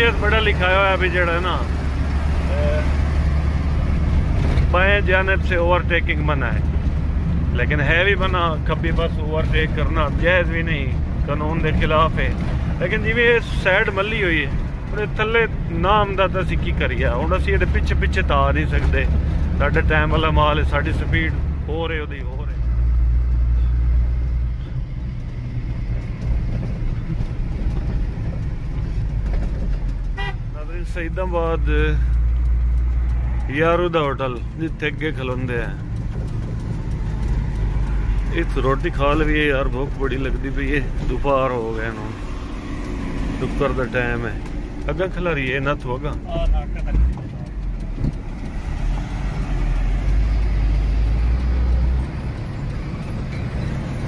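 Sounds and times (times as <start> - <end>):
truck diesel engine: 0.0 - 54.0
tyre and road noise: 0.0 - 54.0.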